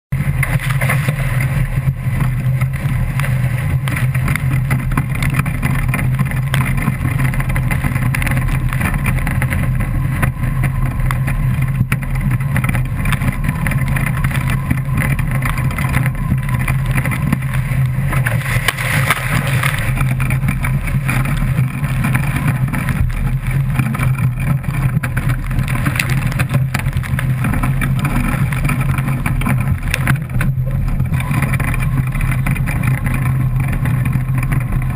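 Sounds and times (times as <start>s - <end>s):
water rushing past hull: 0.1s - 34.9s
wind buffeting camera housing: 0.3s - 34.9s.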